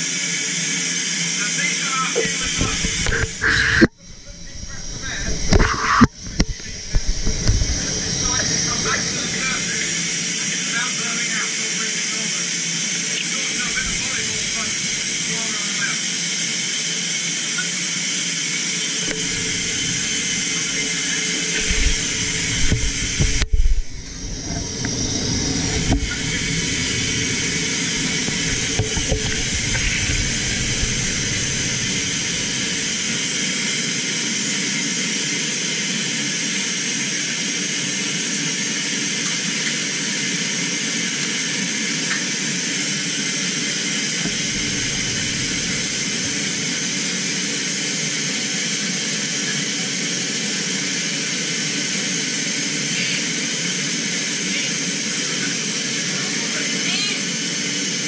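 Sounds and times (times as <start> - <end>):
rush of air through valves: 0.1 - 56.2.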